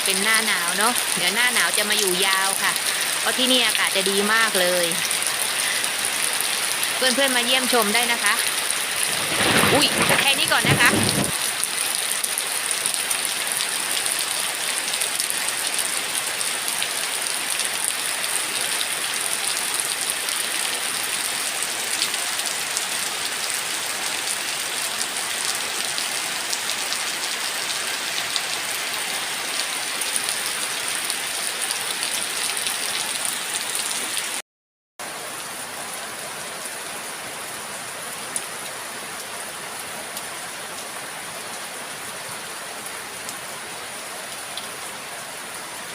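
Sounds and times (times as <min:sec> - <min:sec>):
heavy rain falling: 0:00.0 - 0:34.4, 0:35.0 - 0:45.9.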